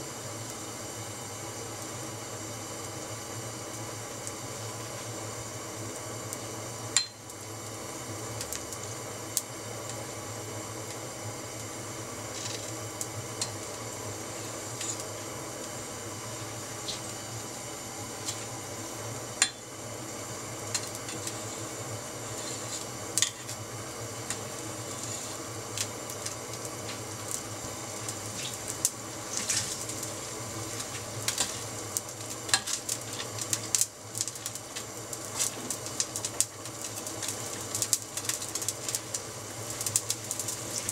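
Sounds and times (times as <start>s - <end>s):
water boiling in saucepan: 0.0s - 40.9s.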